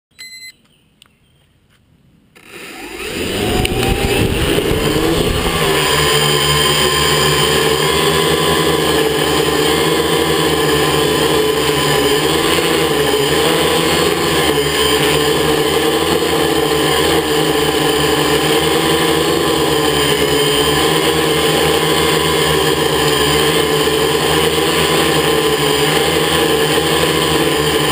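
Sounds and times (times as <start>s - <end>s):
quadcopter motors and propellers humming: 2.3s - 27.9s.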